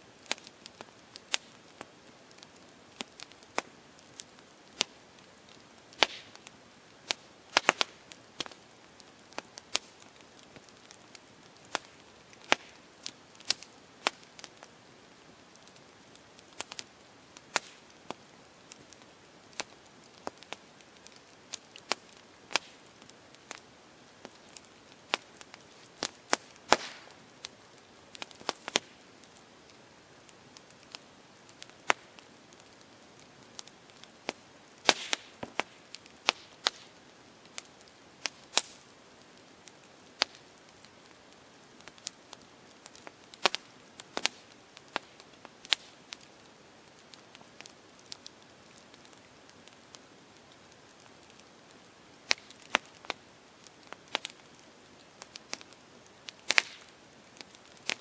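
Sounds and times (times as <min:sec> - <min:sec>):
campfire crackling: 0:00.0 - 0:58.0
faint steady hiss: 0:00.0 - 0:58.0.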